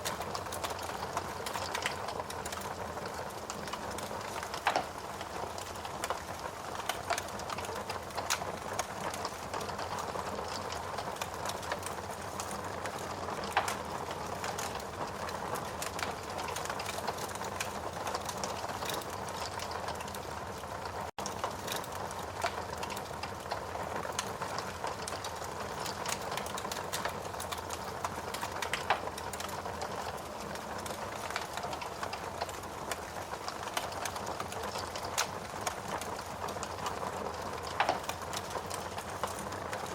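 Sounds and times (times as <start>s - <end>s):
sharp pops from burning wood: 0.0s - 20.2s, 21.2s - 39.9s
wood fire crackling: 0.0s - 39.9s.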